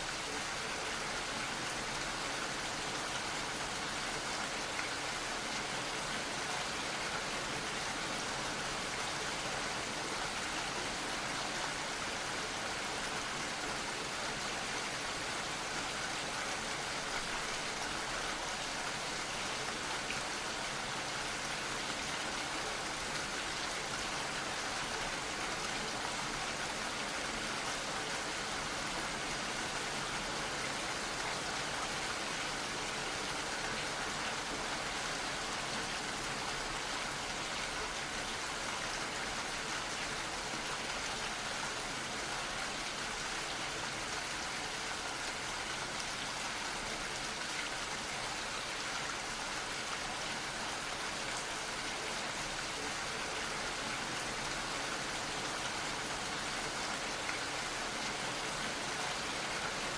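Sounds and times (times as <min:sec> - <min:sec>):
gentle rain patter: 0:00.0 - 0:59.9.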